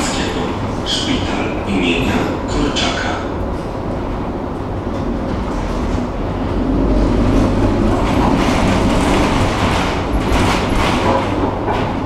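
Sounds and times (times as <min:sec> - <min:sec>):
tram motor hum: 0:00.0 - 0:12.0
tram wheels rumbling on rails: 0:00.0 - 0:12.0.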